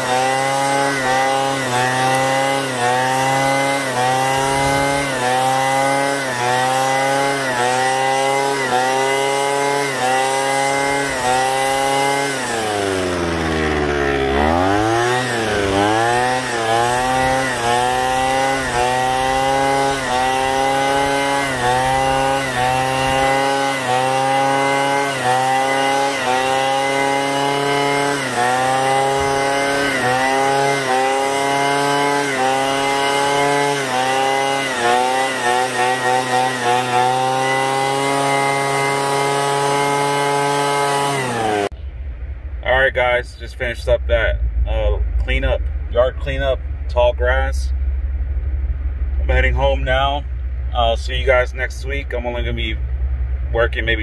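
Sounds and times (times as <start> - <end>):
lawn mower engine cutting grass: 0.0 - 41.8, 42.7 - 54.0.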